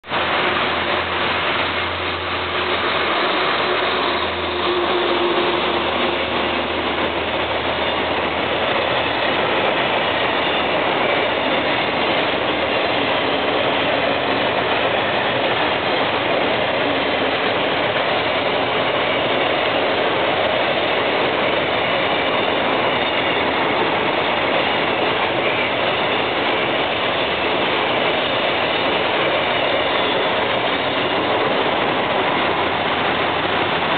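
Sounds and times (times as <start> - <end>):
train wheels on rails: 0.0 - 33.9.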